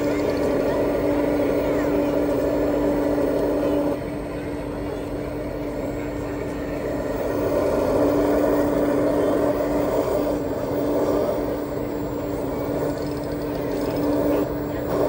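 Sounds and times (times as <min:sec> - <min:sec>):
steady motor hum: 0:00.0 - 0:15.0.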